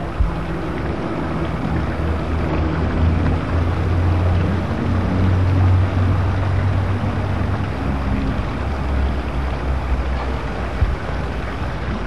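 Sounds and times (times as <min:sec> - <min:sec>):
steady low hum: 0:00.0 - 0:12.0
water splashing down rocks: 0:00.0 - 0:12.0.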